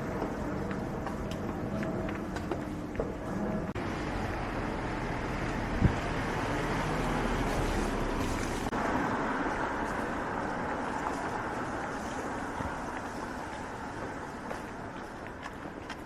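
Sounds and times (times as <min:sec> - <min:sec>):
street traffic and wind hiss: 0:00.0 - 0:16.0.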